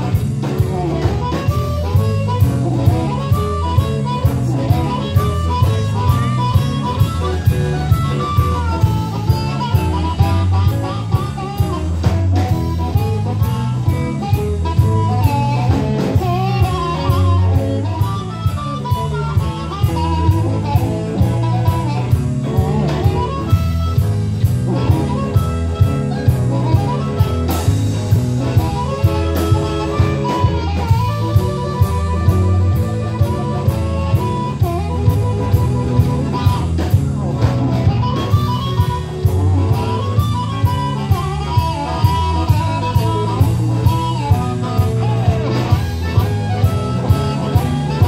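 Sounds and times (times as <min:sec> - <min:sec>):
bass guitar: 0:00.0 - 0:48.0
blues guitar lead: 0:00.0 - 0:48.0
steady drum beat: 0:00.0 - 0:48.0.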